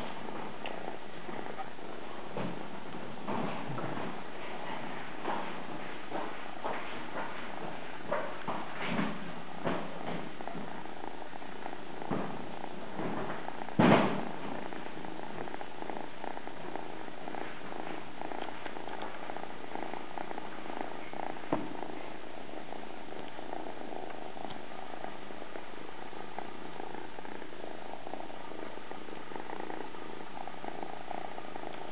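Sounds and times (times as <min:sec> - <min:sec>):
kitten purring: 0:00.0 - 0:31.9.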